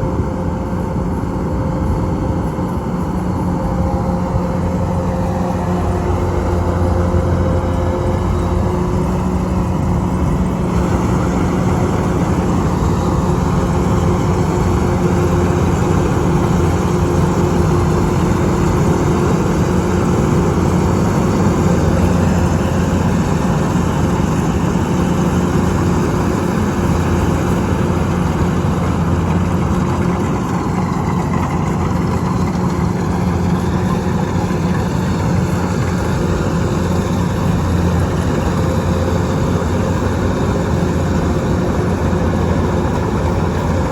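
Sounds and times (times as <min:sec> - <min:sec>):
harvester engine humming: 0:00.0 - 0:43.9.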